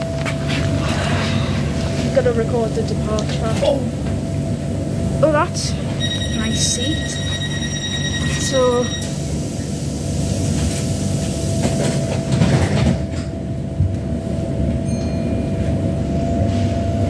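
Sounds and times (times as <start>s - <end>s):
train low rumble: 0.0s - 17.0s
train rattling: 0.0s - 17.0s
train whine: 0.0s - 17.0s.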